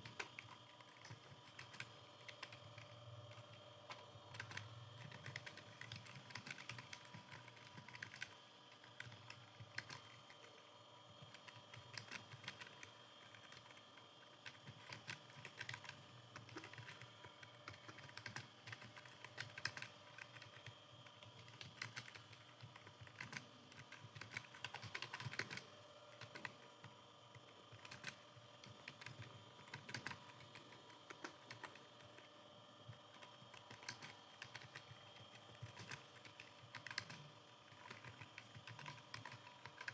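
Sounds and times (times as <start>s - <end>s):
fast typing on computer keyboard: 0.0s - 39.9s.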